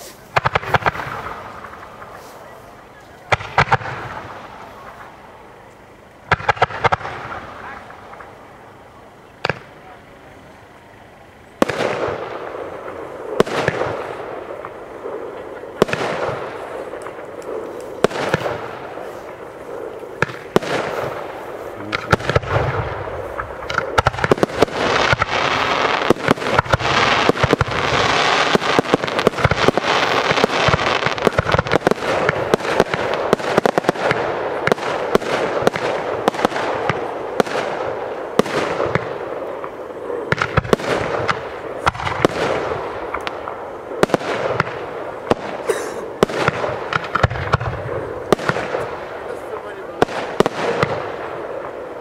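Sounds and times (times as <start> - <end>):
firework shells bursting: 0.0 - 2.4, 11.6 - 52.0.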